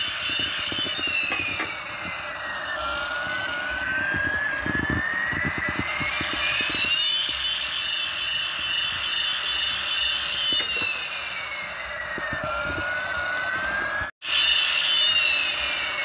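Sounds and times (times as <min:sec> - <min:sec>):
warbling siren-like tone: 0:00.0 - 0:16.0.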